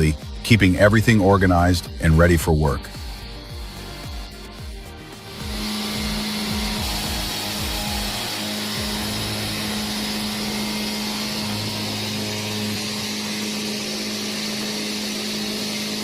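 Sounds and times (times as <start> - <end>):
firewood processing machine running: 0.0 - 16.0.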